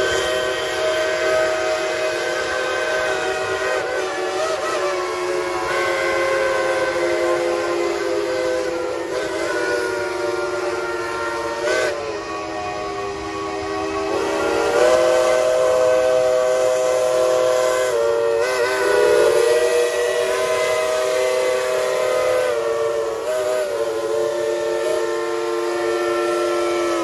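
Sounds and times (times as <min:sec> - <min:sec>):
steam hissing: 0:00.0 - 0:27.0
steam whistles blowing: 0:00.0 - 0:27.0.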